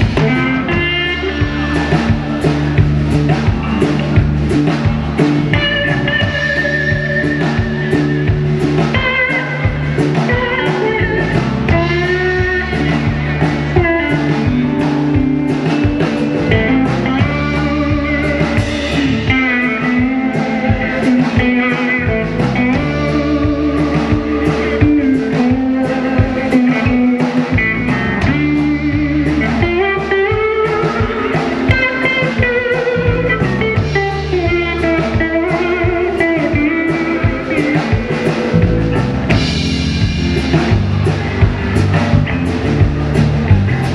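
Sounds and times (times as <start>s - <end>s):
bass guitar: 0.0s - 43.9s
drum kit: 0.0s - 43.9s
electric guitar solo: 0.0s - 43.9s.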